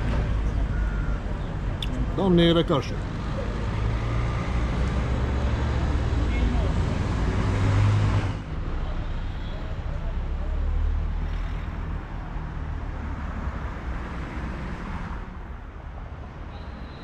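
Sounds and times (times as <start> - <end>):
vehicle engine rumbling: 0.0 - 16.6.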